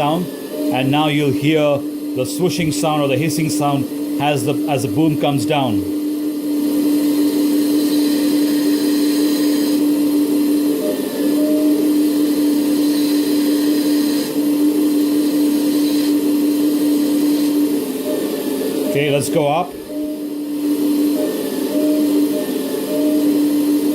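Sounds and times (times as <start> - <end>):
excavator engine drone: 0.0 - 23.9.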